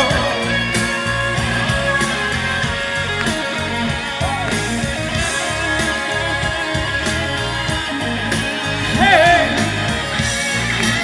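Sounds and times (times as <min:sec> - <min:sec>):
guitar: 0:00.0 - 0:11.0
pop song through speakers: 0:00.0 - 0:11.0
steady drum beat: 0:00.0 - 0:11.0.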